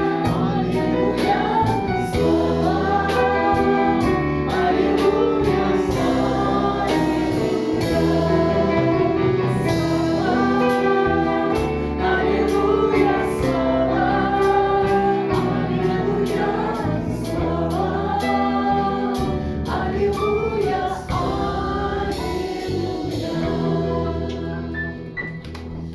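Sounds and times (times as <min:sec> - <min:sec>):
choir singing: 0:00.0 - 0:25.2.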